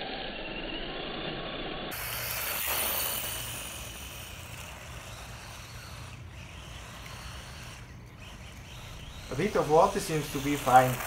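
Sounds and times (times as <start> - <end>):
toy car motor whine: 0.0 - 11.0
tyres spraying gravel: 1.9 - 11.0.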